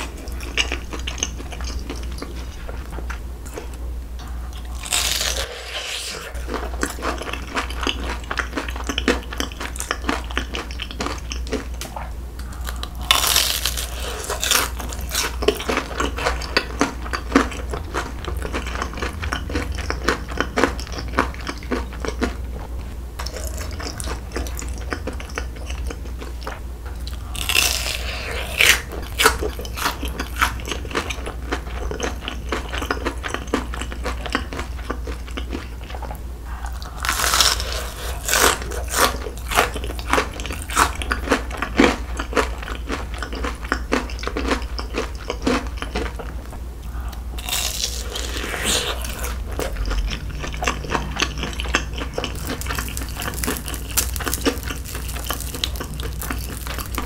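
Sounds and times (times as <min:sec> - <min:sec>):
biting and chewing: 0:06.2 - 0:57.0.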